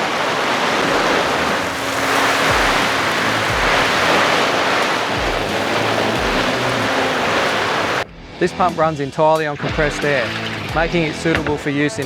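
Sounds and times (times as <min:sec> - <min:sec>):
water spray splashing: 0:00.0 - 0:08.1, 0:09.5 - 0:11.8.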